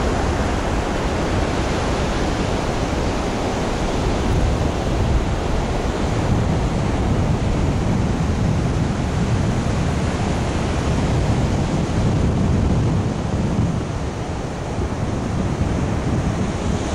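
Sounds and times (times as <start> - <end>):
ocean surf breaking on beach: 0.0 - 16.9
wind buffeting microphone: 0.0 - 16.9.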